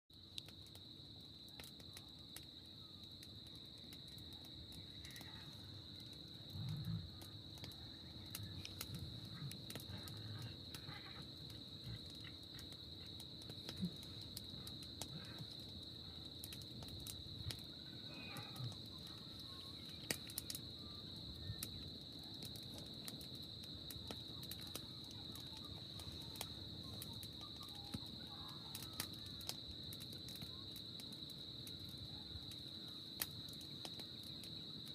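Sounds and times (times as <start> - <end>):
insects chirping chorus: 0.1 - 34.9.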